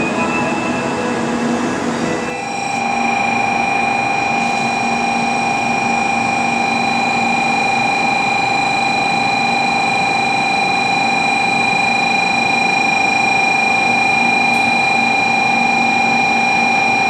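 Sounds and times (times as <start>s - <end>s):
electric train whine: 0.0s - 17.0s.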